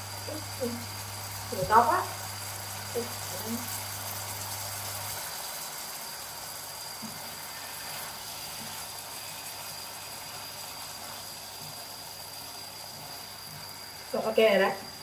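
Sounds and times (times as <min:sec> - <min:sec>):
food simmering in a frying pan: 0:00.0 - 0:15.0.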